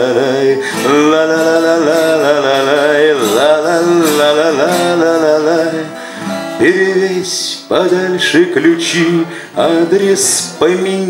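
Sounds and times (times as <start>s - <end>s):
acoustic guitar: 0.0s - 11.0s.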